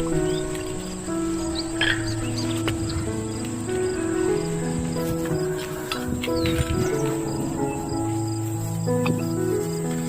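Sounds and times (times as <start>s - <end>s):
slow melody of held notes: 0.0s - 10.0s.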